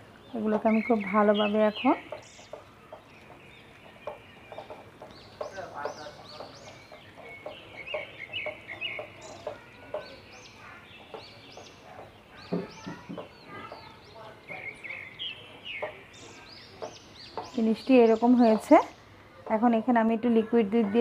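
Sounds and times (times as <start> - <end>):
bird chirps and calls: 0.0 - 21.0.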